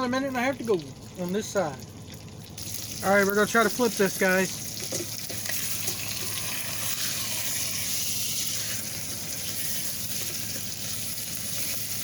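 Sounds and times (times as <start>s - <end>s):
steak sizzling in a pot: 0.0s - 12.0s.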